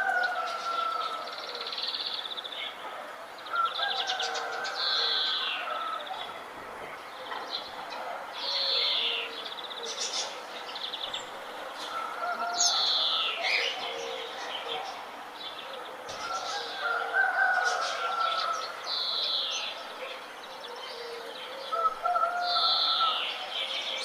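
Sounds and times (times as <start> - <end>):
birds singing: 0.0 - 24.0.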